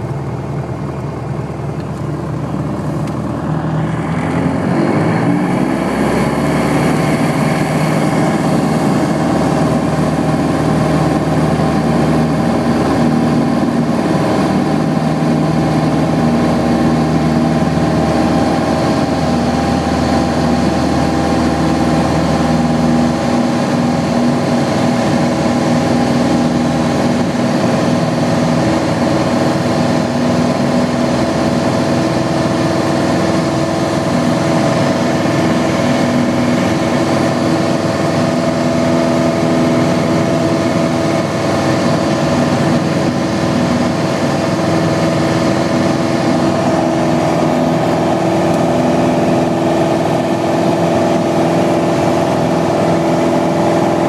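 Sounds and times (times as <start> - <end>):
plane engine and propeller drone: 0.0 - 54.0.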